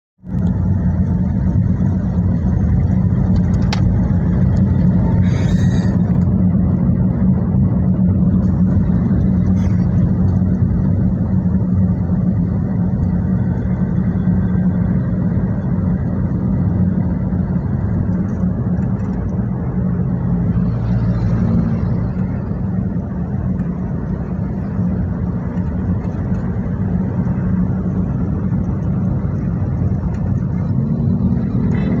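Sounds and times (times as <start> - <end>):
sports car engine running: 0.2 - 32.0.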